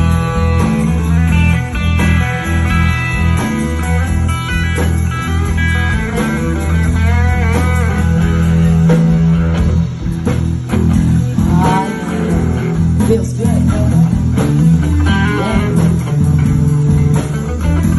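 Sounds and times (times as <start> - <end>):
electric guitar solo: 0.0 - 17.9
steady bass line: 0.0 - 17.9.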